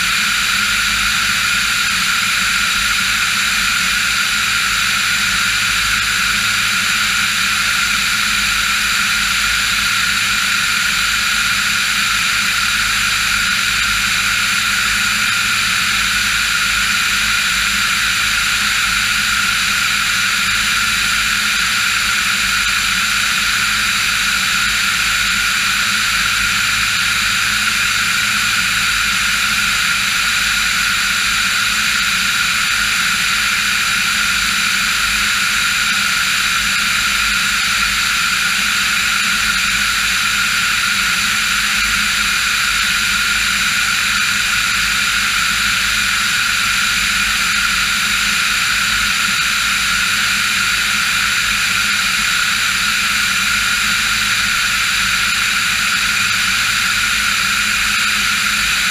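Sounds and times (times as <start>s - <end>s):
aircraft engine and propeller drone: 0.0s - 58.9s.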